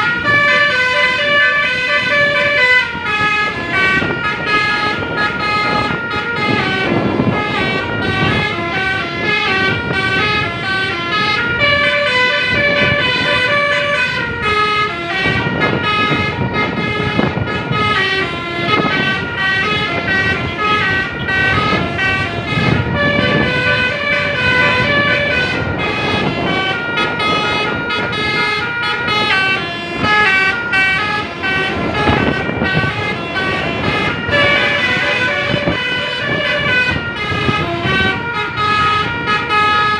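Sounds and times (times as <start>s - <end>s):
musical bus horn melody: 0.0s - 39.9s.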